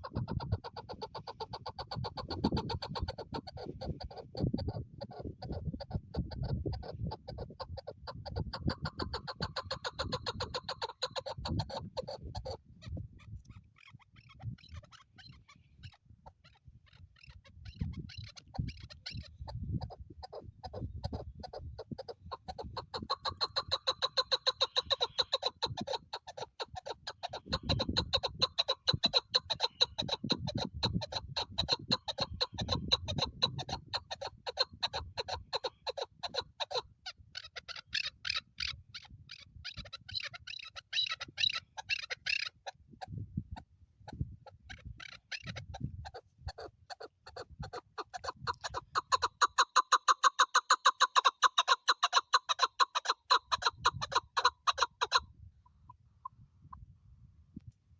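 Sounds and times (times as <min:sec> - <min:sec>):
partridge clucking call: 0:00.0 - 0:12.6, 0:13.8 - 0:42.7, 0:43.5 - 0:55.2.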